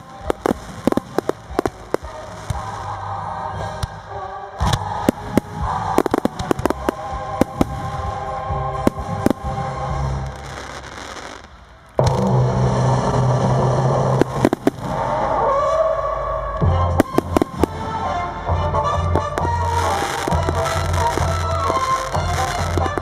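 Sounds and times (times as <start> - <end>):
fireworks bursting and crackling: 0.0 - 16.2, 16.9 - 23.0
music soundtrack: 0.0 - 23.0.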